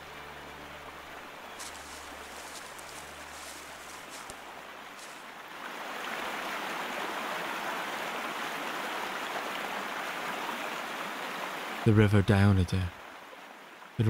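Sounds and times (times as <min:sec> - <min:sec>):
river water rushing over rapids: 0:00.0 - 0:11.9.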